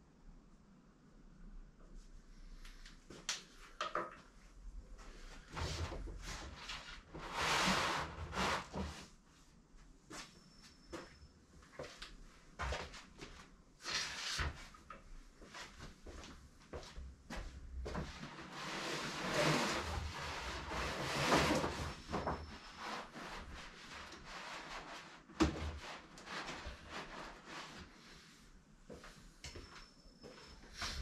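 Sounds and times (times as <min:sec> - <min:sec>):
scrapes and knocks in a room: 0:03.1 - 0:27.9.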